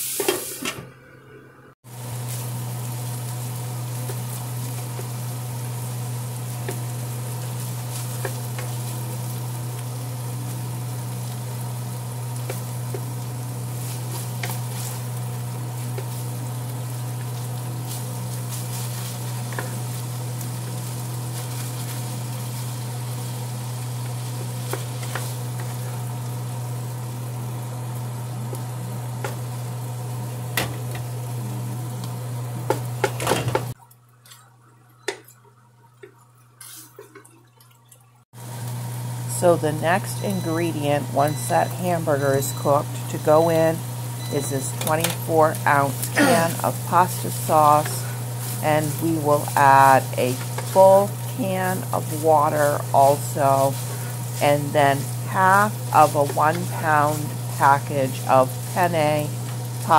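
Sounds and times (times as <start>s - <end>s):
steady low hum: 1.0s - 36.0s, 38.5s - 59.9s
ground beef sizzling: 1.9s - 33.7s, 38.4s - 59.9s.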